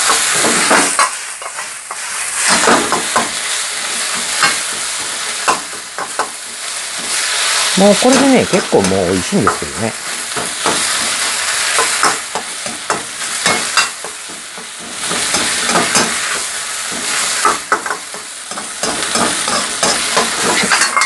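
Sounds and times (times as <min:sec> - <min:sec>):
rice sizzling in a wok: 0:00.0 - 0:21.0
spatula scraping and knocking pan: 0:00.0 - 0:21.0.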